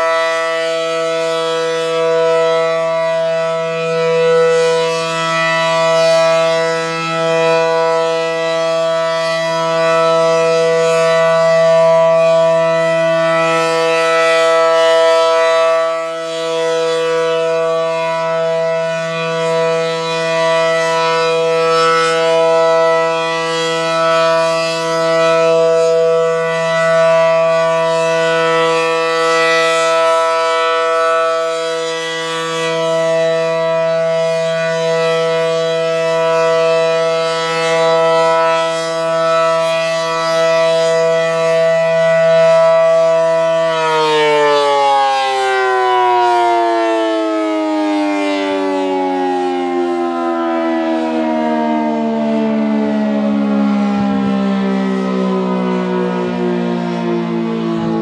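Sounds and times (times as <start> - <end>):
siren winding down: 0.0 - 58.0
warning siren alert chord: 0.0 - 58.0.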